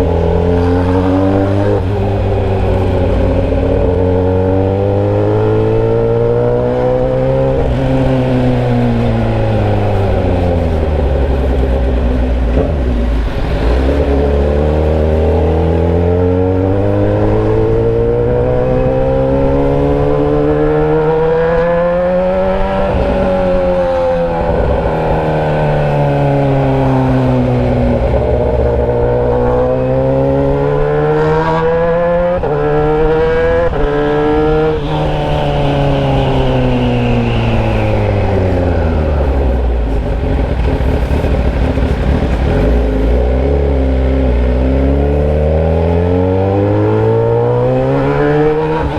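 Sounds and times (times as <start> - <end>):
unmuffled motorcycle engine: 0.0 - 48.9.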